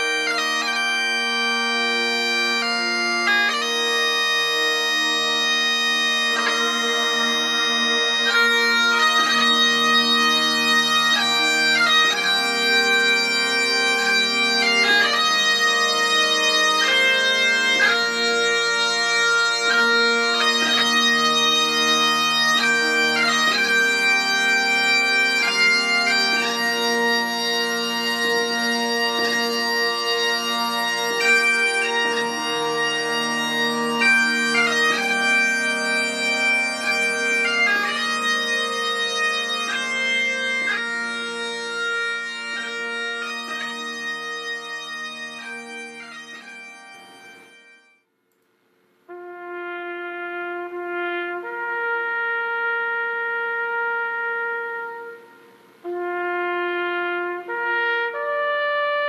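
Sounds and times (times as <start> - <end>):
bagpipes playing: 0.0 - 48.0, 49.1 - 59.0.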